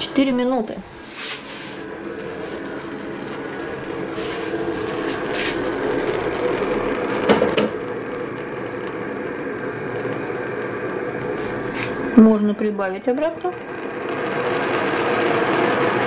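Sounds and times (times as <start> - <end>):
kettle water rumbling: 0.0 - 16.0.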